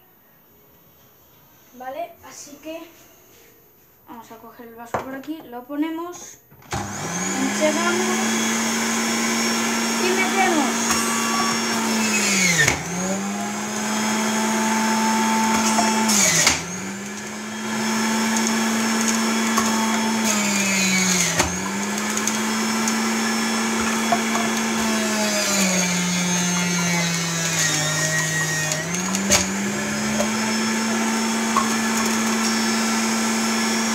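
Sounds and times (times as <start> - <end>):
juicer motor humming: 6.7 - 33.9.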